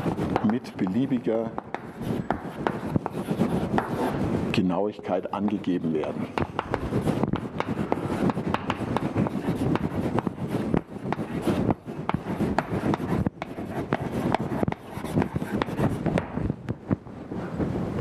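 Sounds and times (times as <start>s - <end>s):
chalk tapping and scratching on blackboard: 0.0s - 4.3s, 5.1s - 16.6s.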